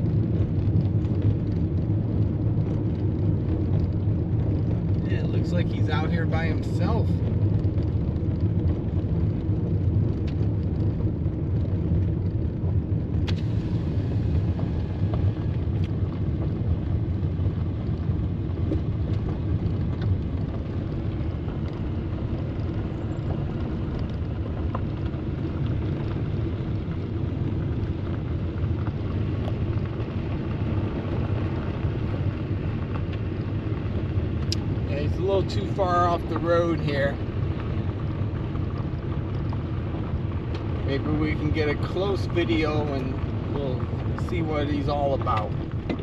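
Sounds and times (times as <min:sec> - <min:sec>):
vehicle engine rumble: 0:00.0 - 0:46.0.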